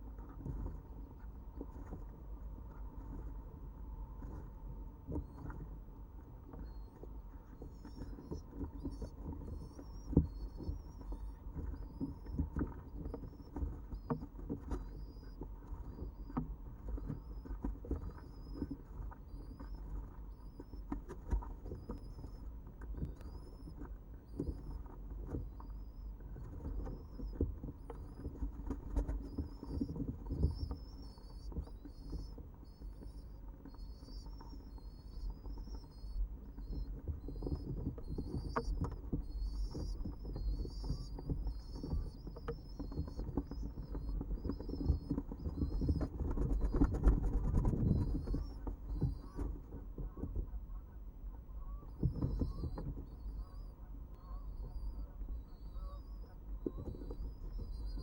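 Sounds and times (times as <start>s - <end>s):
chicks squeaking: 6.5s - 58.0s.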